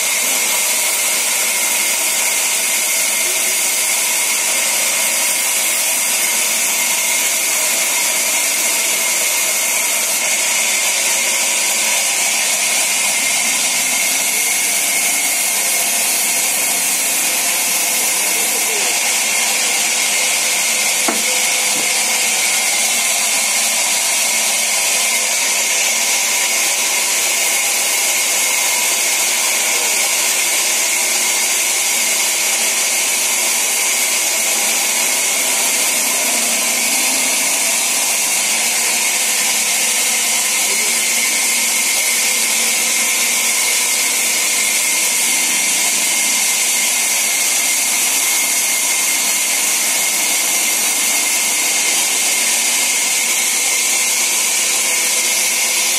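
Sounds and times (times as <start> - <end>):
band saw cutting timber: 0.0 - 55.9.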